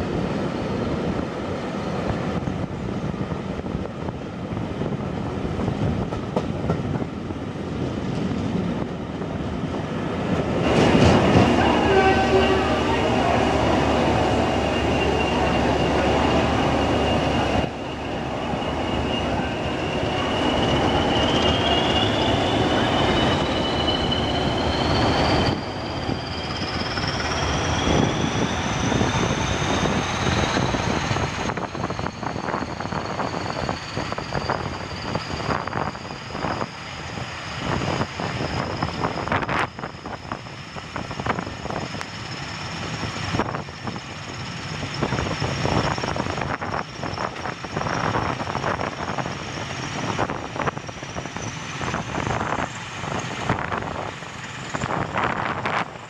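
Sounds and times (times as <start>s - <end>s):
locomotive whine rising in pitch: 10.4s - 56.0s.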